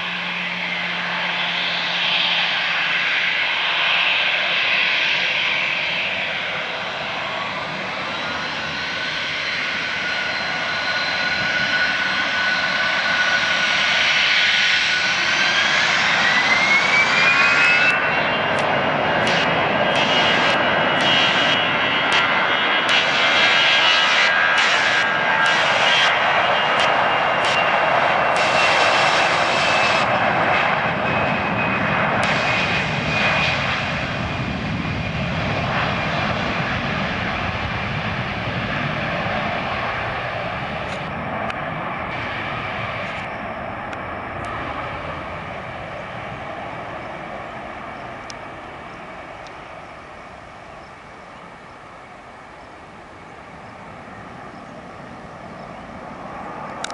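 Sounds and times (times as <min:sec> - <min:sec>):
jet engine rumble: 0:00.0 - 0:56.9
jet engine whine falling in pitch: 0:00.0 - 0:56.9.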